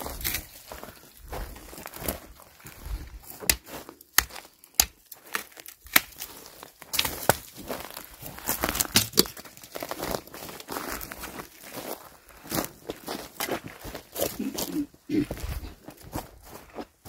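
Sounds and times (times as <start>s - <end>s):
footsteps crunching on dry leaves: 0.0s - 17.0s.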